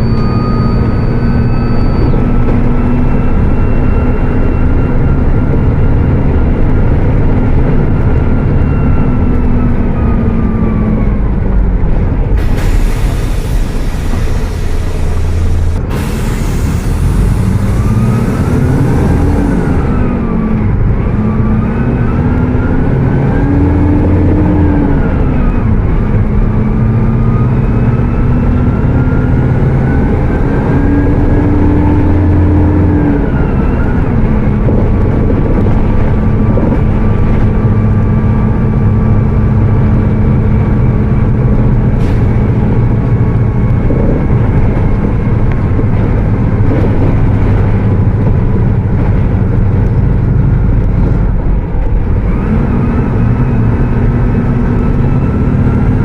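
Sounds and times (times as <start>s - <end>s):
bus diesel engine revving: 0.0s - 56.0s.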